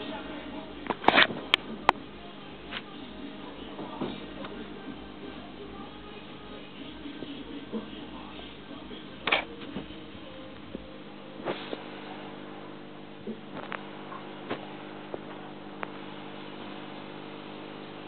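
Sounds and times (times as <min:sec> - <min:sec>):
aquarium pump humming: 0:00.0 - 0:18.0.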